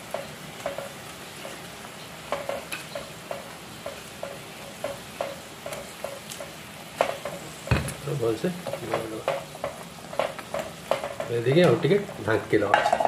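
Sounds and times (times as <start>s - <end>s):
gravy bubbling and sizzling: 0.0s - 13.0s.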